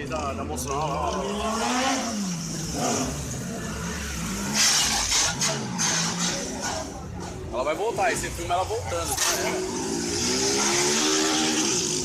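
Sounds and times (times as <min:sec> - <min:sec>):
vehicle engine revving: 0:01.0 - 0:07.4, 0:08.4 - 0:12.0.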